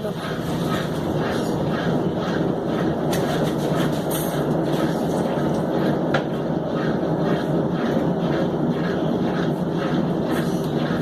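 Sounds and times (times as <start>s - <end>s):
washing machine spin rumble: 0.0s - 11.0s.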